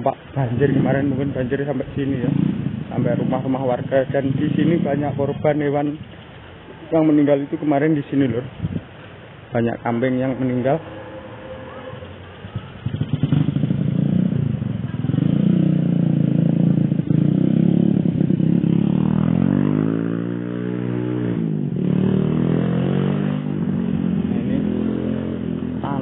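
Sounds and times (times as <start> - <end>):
small motorcycle engine passing: 0.4 - 6.1, 9.9 - 26.0.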